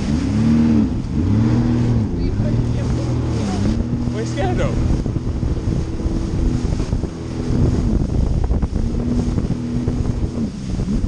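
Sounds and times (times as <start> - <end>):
jet ski engine drone: 0.0 - 11.0
wind buffeting microphone: 0.0 - 11.0.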